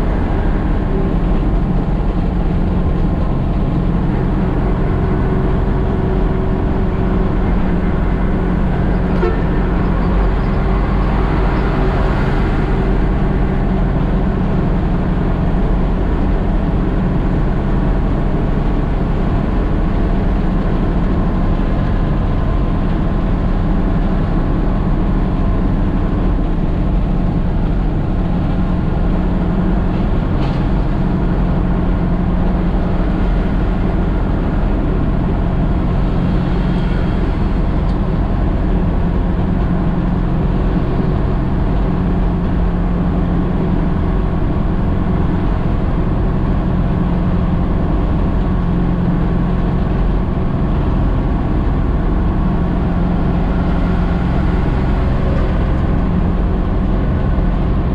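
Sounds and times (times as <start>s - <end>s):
diesel truck engine running: 0.0s - 57.9s
road noise: 0.0s - 57.9s.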